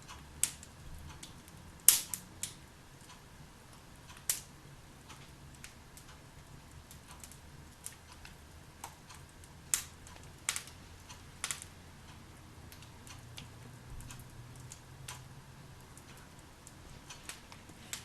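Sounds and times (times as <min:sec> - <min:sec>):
fireplace logs crackling and popping: 0:00.0 - 0:18.0.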